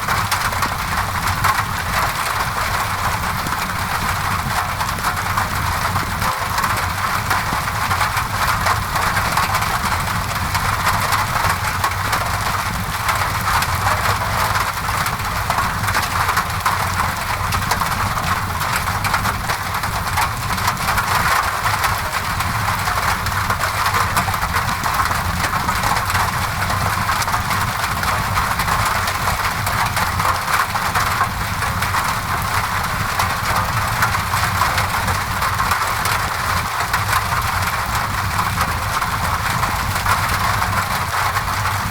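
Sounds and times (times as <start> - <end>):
rain on a window: 0.0 - 41.9.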